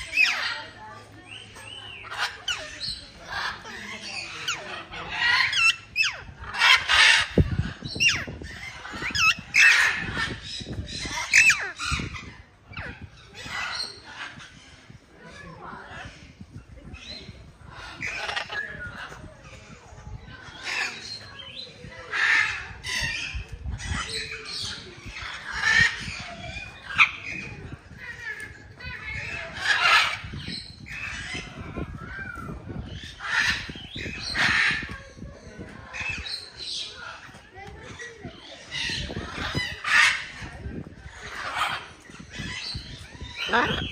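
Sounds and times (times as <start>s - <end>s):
birds squawking: 0.0s - 15.0s, 17.0s - 43.9s.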